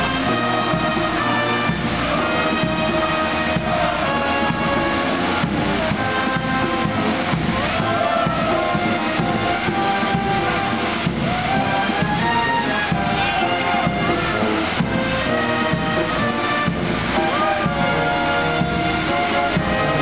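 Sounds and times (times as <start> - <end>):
sustained instrumental tones: 0.0 - 20.0
drum hits: 1.7 - 17.8.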